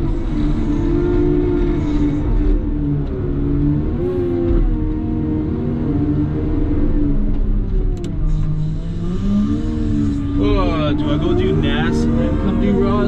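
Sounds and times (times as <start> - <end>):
diesel loader engine under load: 0.0 - 13.0.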